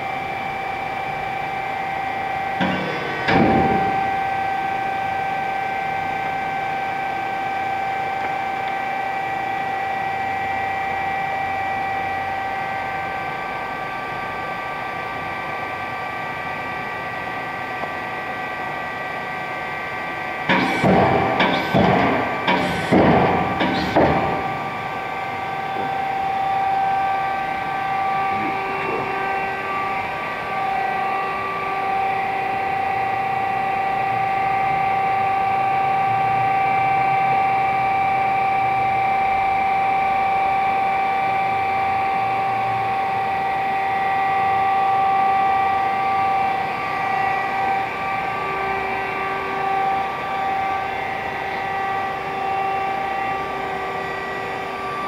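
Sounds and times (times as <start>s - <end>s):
folding machine humming and whining: 0.0s - 55.0s
low machine tone: 0.0s - 55.0s.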